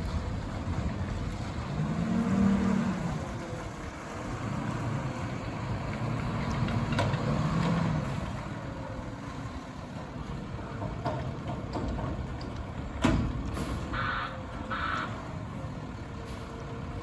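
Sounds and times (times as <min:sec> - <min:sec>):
garbage truck diesel engine: 0:00.0 - 0:17.0.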